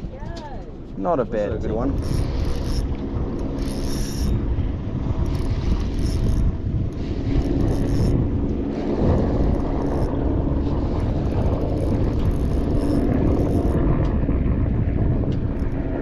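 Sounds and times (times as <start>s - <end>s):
boat motor rumbling: 0.0s - 16.0s.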